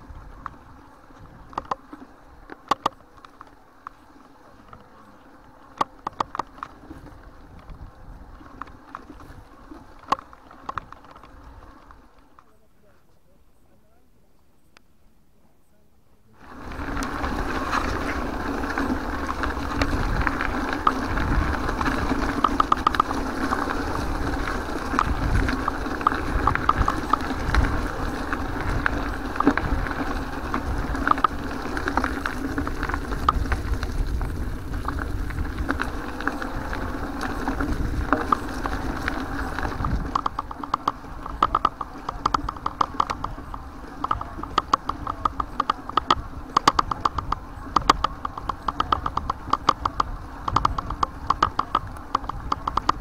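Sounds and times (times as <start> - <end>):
wind rumble on microphone: 0.0 - 3.3, 4.5 - 12.2, 16.4 - 53.0
bike clicking and ticking: 0.0 - 12.5, 16.4 - 53.0
bike tyre and frame rattle: 0.0 - 12.5, 16.4 - 53.0.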